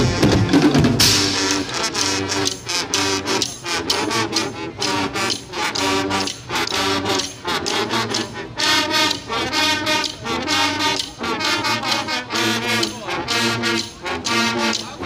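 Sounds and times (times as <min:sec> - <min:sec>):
brass and trombones playing: 0:00.0 - 0:15.0
drums and cymbals: 0:00.0 - 0:15.0.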